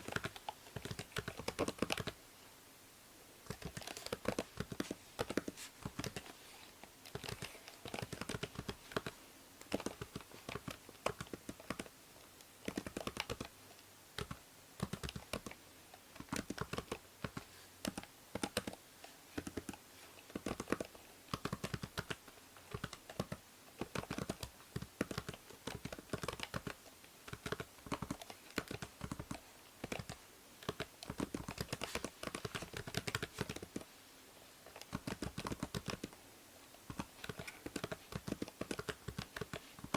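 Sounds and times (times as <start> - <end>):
typing on a computer keyboard: 0.0 - 2.2, 3.5 - 6.3, 7.0 - 11.9, 12.6 - 13.6, 14.2 - 15.6, 16.2 - 18.8, 19.4 - 33.9, 34.7 - 36.2, 36.9 - 39.9
faint steady hiss: 0.0 - 39.9.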